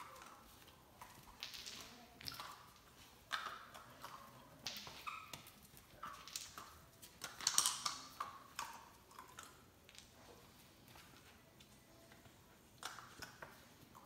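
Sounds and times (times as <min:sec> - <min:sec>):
puppy claws clicking on wooden floor: 0:00.0 - 0:10.2, 0:12.1 - 0:14.0.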